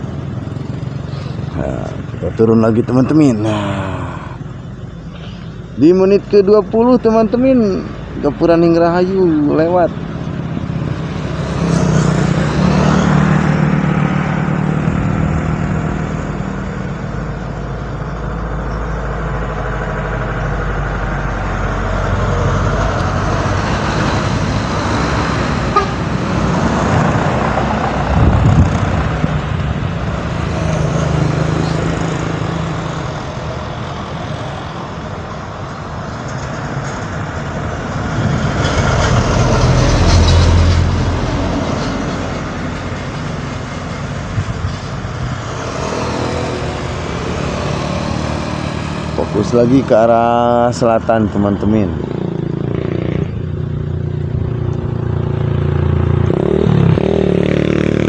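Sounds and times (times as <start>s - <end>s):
bus engine passing: 0.0s - 58.0s
vehicle engine: 0.0s - 58.0s.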